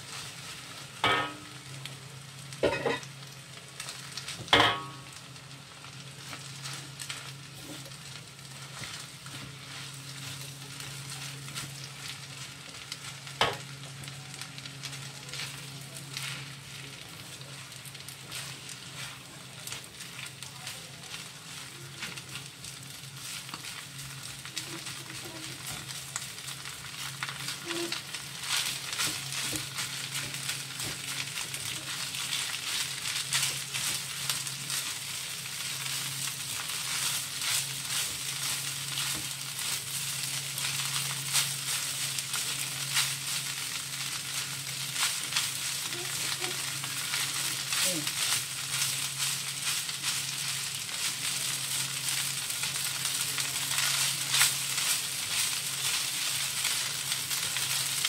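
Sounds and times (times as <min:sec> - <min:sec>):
rice sizzling in a wok: 0:00.0 - 0:58.0.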